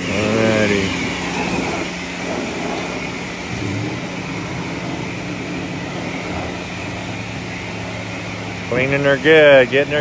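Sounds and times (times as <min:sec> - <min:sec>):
pressure washer spray hissing: 0:00.0 - 0:10.0.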